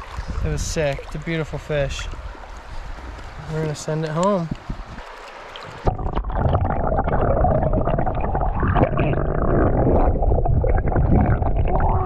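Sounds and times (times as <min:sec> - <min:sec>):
muffled underwater river rushing: 0:00.0 - 0:12.0.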